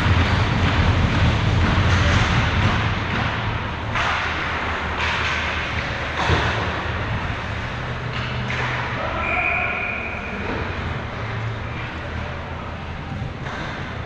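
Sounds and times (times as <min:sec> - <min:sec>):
arena crowd hubbub: 0:00.0 - 0:14.0.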